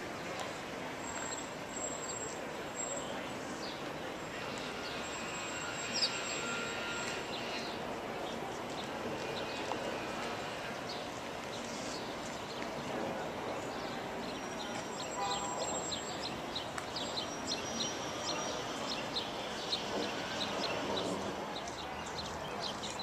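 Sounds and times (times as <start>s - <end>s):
city traffic hum: 0.0s - 23.0s.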